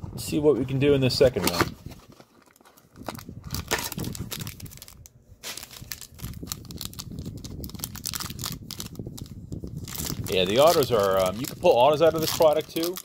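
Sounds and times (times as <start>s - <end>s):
foil packs crinkling: 1.4s - 13.0s.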